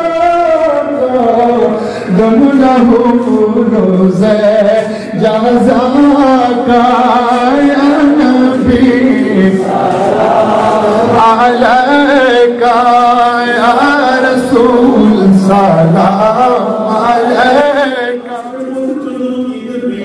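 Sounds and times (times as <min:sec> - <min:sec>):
person singing devotional song: 0:00.0 - 0:20.0.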